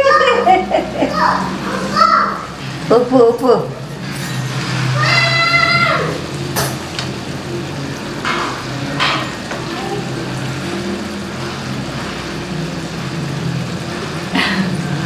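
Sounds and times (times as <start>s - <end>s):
curry sizzling in a pan: 1.1s - 15.0s.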